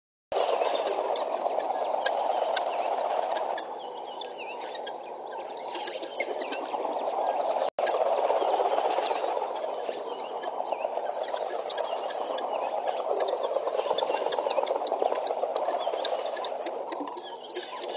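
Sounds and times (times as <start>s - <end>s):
small birds chirping: 0.3s - 17.9s
guineafowl chattering: 0.4s - 17.9s.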